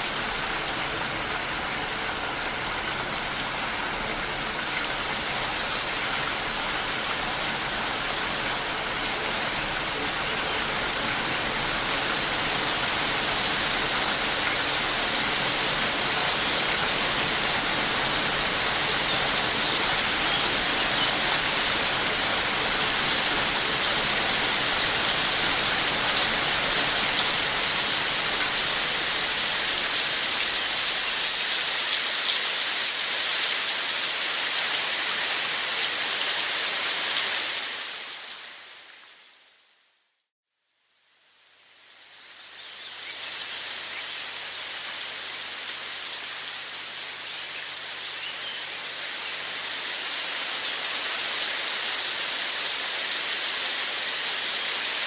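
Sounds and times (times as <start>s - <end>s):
steady rain falling: 0.0s - 40.1s, 40.8s - 55.0s.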